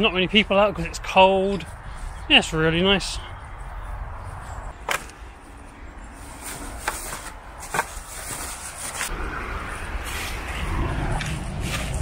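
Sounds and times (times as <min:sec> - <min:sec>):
distant motorway traffic rumble: 0:00.0 - 0:12.0.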